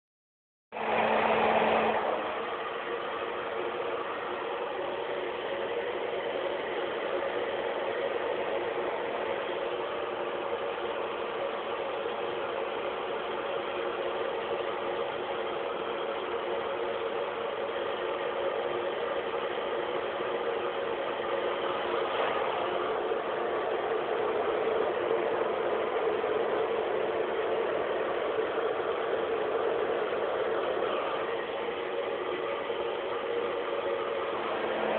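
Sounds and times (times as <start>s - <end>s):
mechanical hum: 0.8s - 34.9s.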